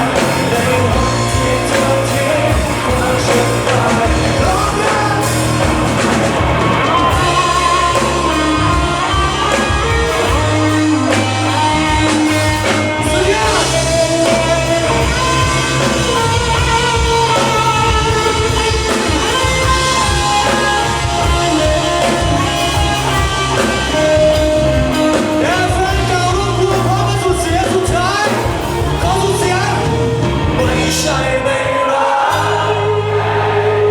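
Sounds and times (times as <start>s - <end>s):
rock song with singer and band: 0.0s - 33.9s.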